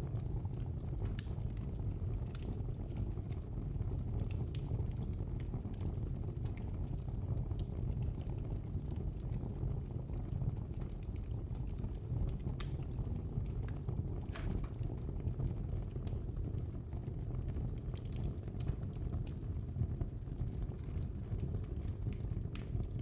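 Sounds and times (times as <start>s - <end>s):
fire crackling and popping: 0.0s - 23.0s
wood fire burning: 0.0s - 23.0s.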